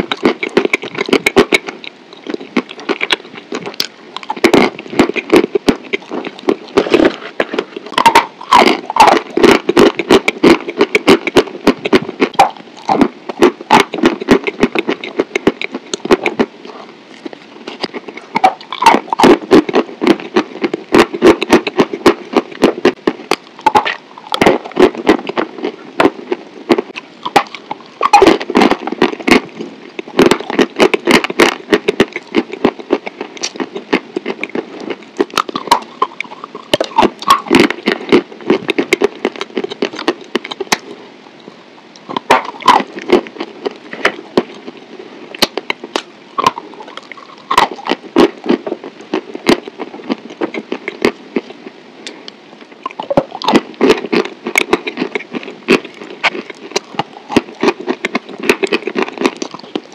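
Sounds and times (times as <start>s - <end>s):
person chewing and biting food: 0.0s - 40.9s, 41.9s - 59.9s
wet mouth sounds: 0.0s - 59.9s.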